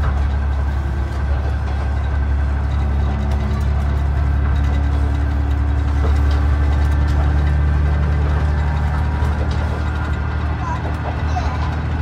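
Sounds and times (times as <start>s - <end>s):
train engine running: 0.0s - 12.0s.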